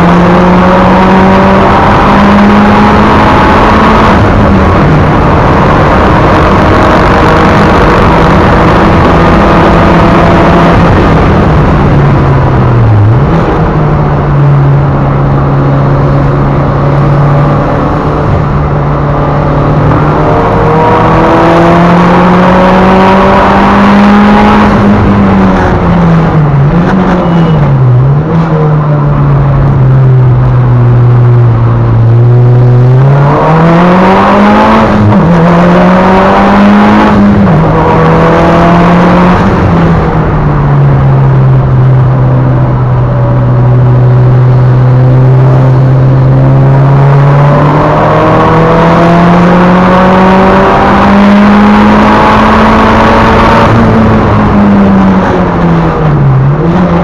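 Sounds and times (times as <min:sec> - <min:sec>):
turbocharged car engine revving: 0:00.0 - 0:57.0.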